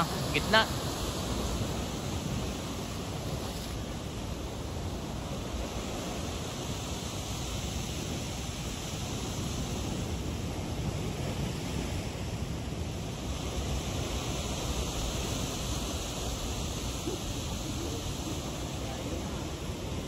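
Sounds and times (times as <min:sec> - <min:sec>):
ocean surf on rocks: 0:00.0 - 0:20.0
wind rumbling on microphone: 0:00.0 - 0:20.0.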